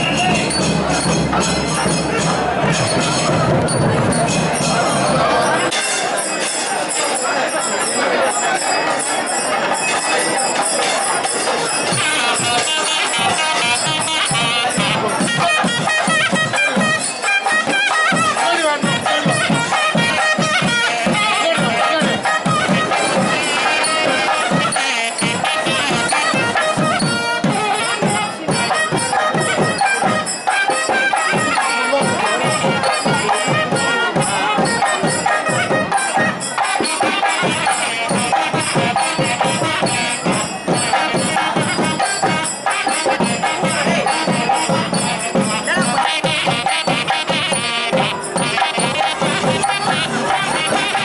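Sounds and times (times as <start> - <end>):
fast drumming: 0.0 - 5.8, 11.2 - 51.0
jingling percussion: 0.0 - 51.0.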